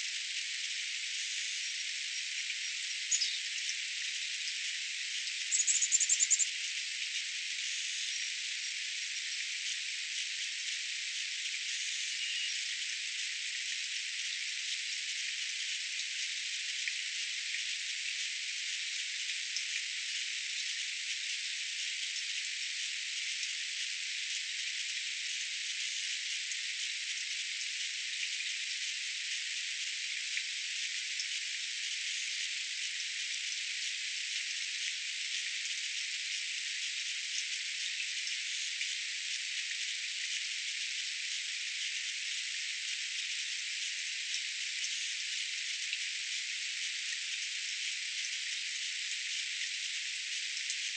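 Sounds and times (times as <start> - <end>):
faint scattered ticks: 0.0 - 50.9.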